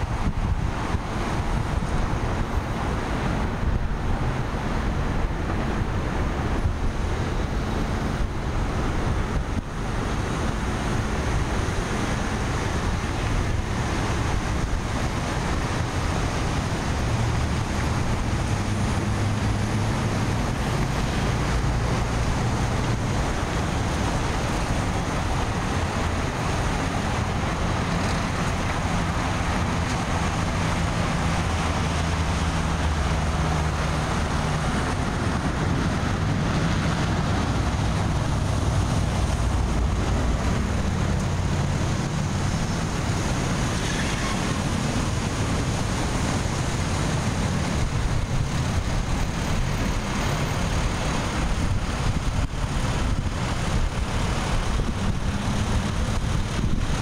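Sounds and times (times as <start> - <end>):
urban traffic noise: 0.0 - 57.0
wind on microphone: 0.0 - 57.0.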